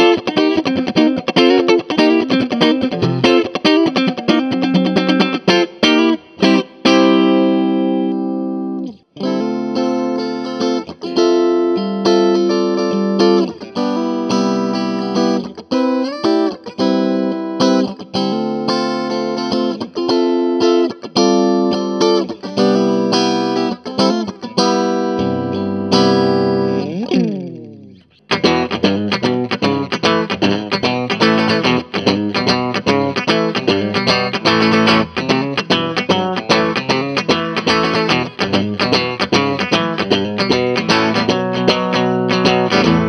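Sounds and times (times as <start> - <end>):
clean electric guitar riff: 0.0 - 43.0.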